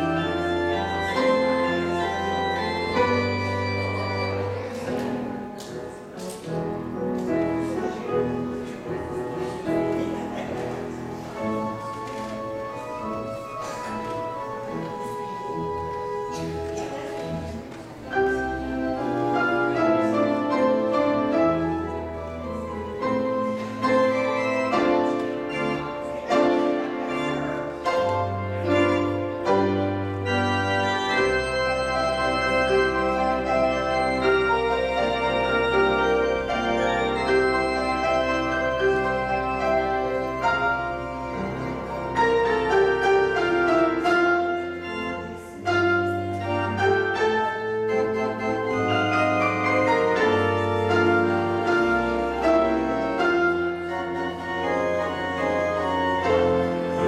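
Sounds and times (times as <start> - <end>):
organ music: 0.0 - 57.0.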